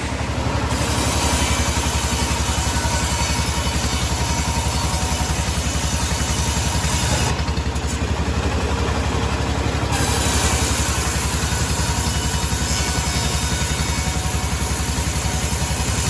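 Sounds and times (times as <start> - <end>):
sawmill engine pulsing: 0.0 - 16.0.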